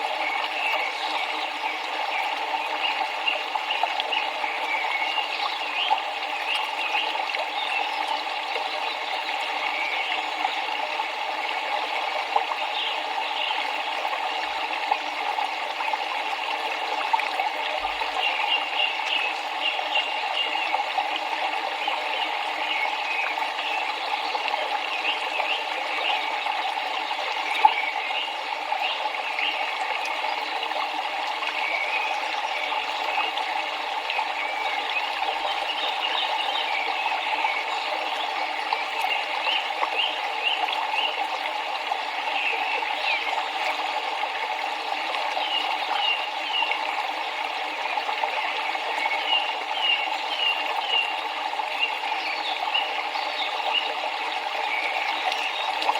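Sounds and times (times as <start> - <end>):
river water babbling: 0.0 - 55.9.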